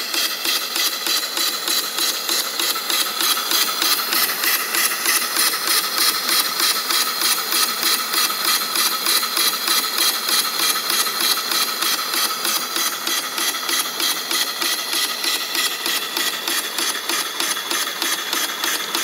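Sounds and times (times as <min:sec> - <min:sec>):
steam engine exhaust chuffs: 0:00.0 - 0:19.0.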